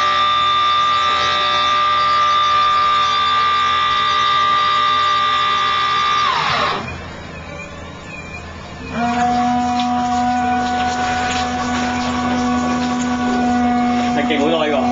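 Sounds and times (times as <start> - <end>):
electric motor whine: 0.0 - 7.9, 8.8 - 14.9.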